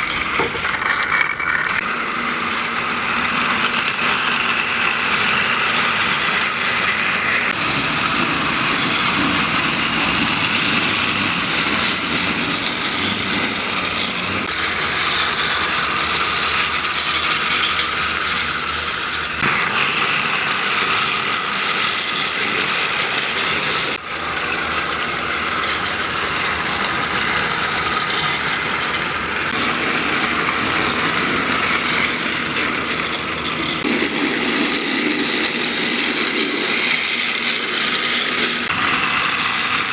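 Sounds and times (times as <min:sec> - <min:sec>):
toy train motor whirring: 0:00.0 - 0:39.9
toy train wheels rattling: 0:00.0 - 0:39.9.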